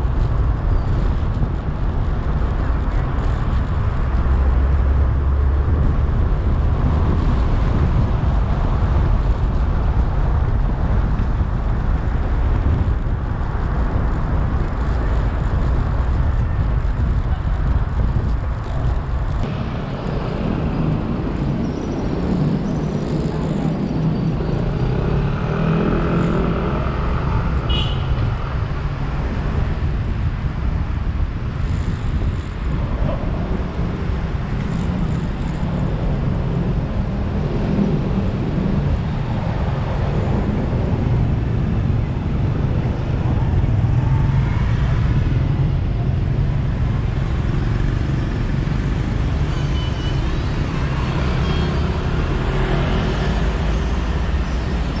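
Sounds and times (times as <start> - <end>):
car engine and road noise: 0.0 - 55.0
vehicles passing: 0.0 - 55.0.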